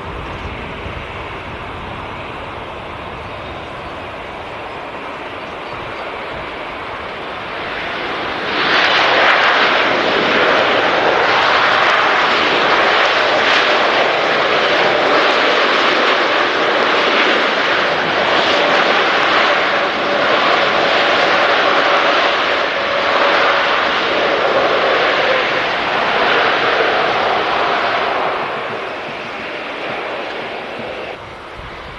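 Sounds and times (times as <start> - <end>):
jet engines roaring: 0.0 - 31.9
steady engine whine: 0.0 - 31.9.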